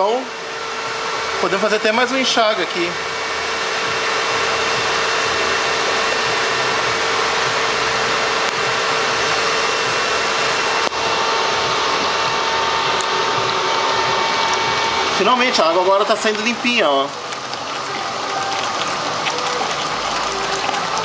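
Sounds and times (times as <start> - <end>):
radiator cooling fan humming: 0.0 - 21.0.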